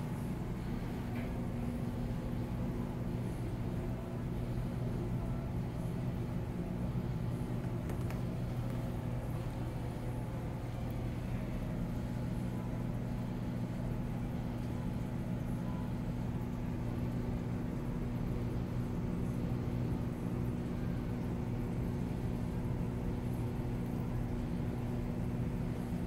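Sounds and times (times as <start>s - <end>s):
aquarium pump hum: 0.0s - 26.0s.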